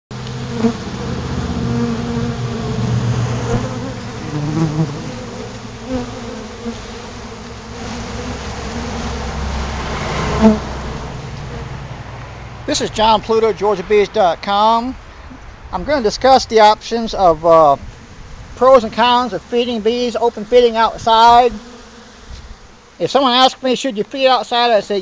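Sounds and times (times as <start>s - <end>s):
honeybees buzzing: 0.2s - 14.1s, 17.8s - 25.0s.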